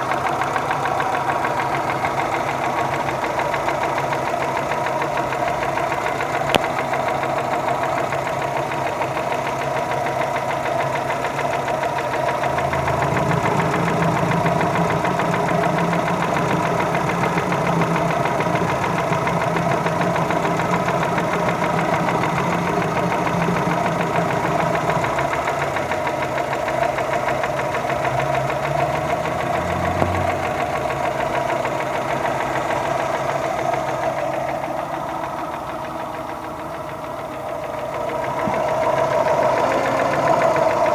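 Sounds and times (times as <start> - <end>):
car engine running: 0.0 - 40.9
rapid engine knocking: 0.0 - 40.9.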